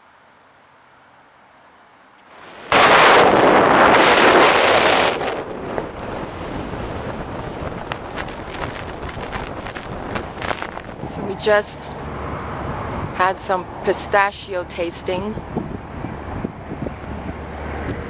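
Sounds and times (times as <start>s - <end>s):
road and cabin noise: 0.0s - 18.0s
wind rushing over microphone: 2.3s - 13.9s, 15.0s - 18.0s.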